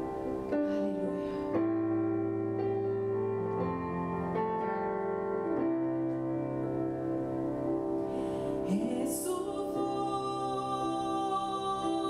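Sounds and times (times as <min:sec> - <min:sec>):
keyboard playing slow chords: 0:00.0 - 0:12.0.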